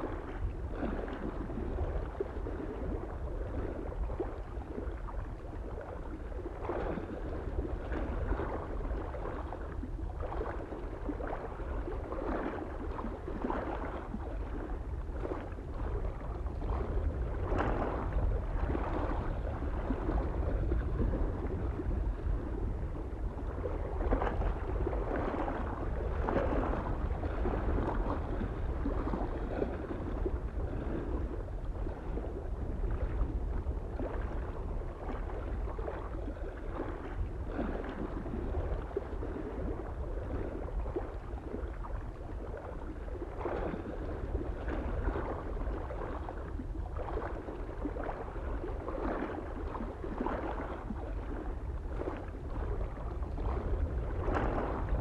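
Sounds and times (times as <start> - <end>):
small waves lapping on shore: 0.0 - 55.0
wind rumble on microphone: 0.0 - 55.0.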